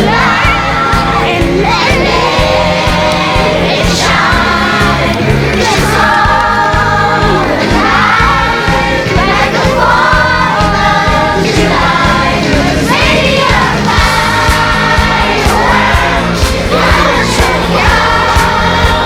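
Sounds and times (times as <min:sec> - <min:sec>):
children singing together: 0:00.0 - 0:19.0
pop backing track: 0:00.0 - 0:19.0.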